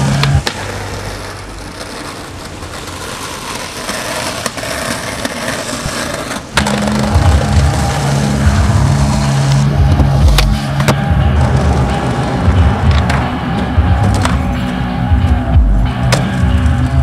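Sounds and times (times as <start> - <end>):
skateboard crack: 0.0 - 17.0
skateboard grinding on concrete: 0.0 - 17.0.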